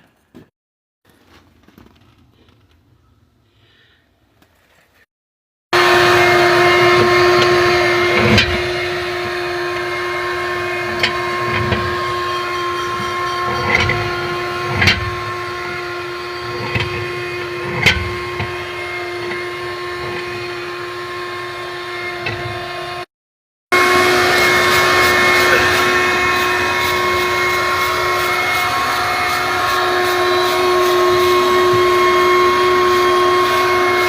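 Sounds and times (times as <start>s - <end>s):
motor-driven machine humming: 5.8s - 23.1s, 23.8s - 34.0s.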